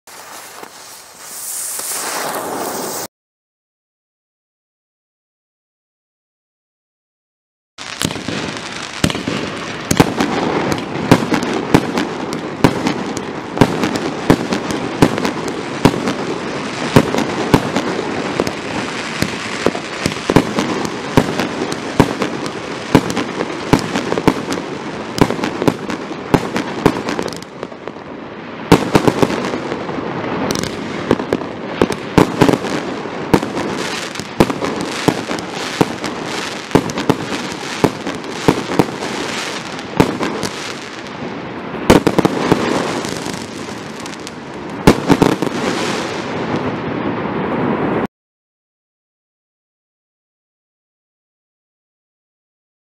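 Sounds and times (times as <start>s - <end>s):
firework shots and aerial bursts: 0.1s - 3.1s, 7.8s - 48.1s.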